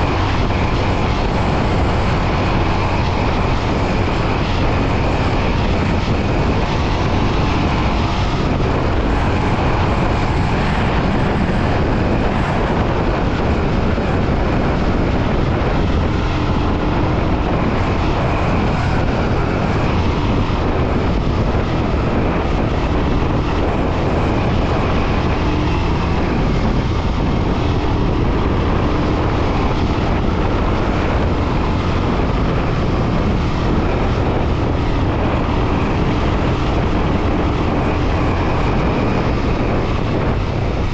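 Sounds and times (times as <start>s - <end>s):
motorcycle engine running: 0.0s - 40.9s
riding wind noise: 0.0s - 40.9s.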